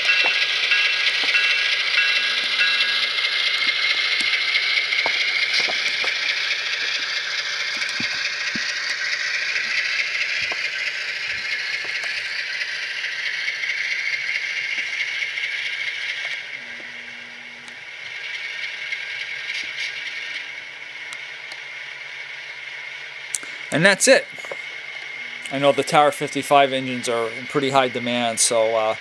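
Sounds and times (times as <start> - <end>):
diesel engine sound through small speaker: 0.0 - 29.0
wheels rattling on rails: 0.0 - 29.0.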